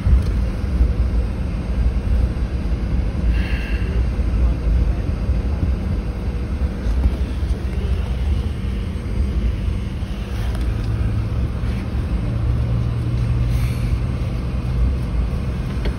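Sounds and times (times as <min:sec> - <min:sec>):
jet engines rumbling: 0:00.0 - 0:15.9
low drone: 0:00.0 - 0:15.9
wheels rolling on taxiway: 0:00.0 - 0:15.9.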